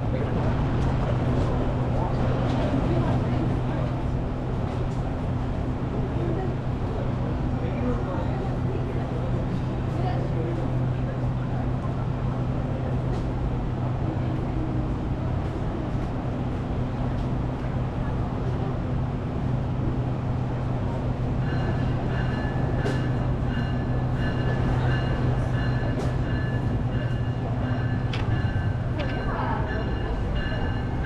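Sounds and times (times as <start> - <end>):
diesel train idling hum: 0.0 - 31.0.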